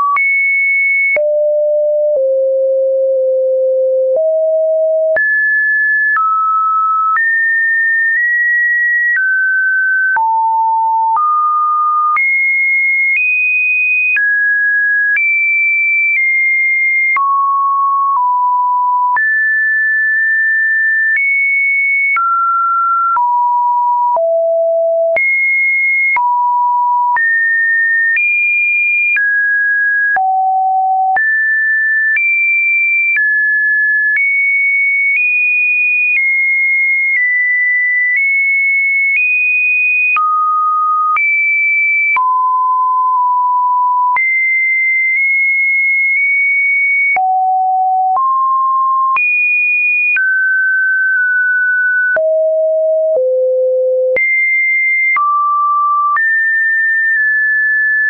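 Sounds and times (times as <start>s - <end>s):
sine-wave test tone beeps: 0.0s - 13.4s, 14.0s - 29.4s, 30.0s - 58.0s.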